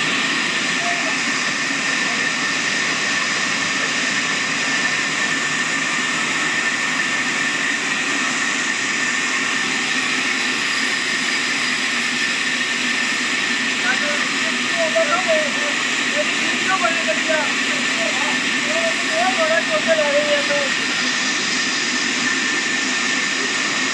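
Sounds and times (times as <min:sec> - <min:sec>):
band saw running with high whine: 0:00.0 - 0:23.9.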